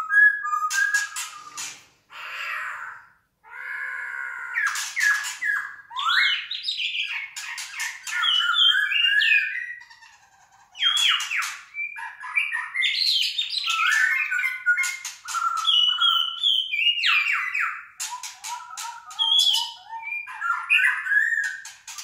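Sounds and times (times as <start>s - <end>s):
caged birds squawking and whistling: 0.0s - 22.0s.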